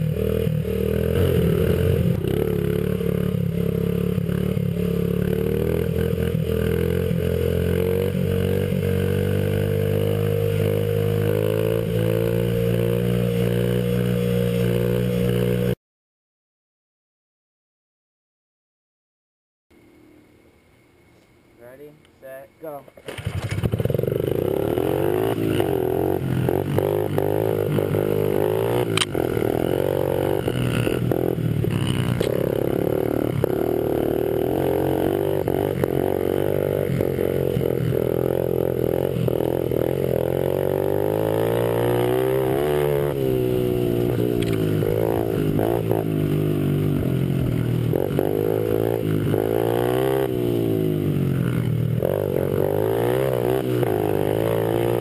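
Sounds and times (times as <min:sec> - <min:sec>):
pit bike engines revving: 0:00.0 - 0:15.8, 0:23.1 - 0:55.0.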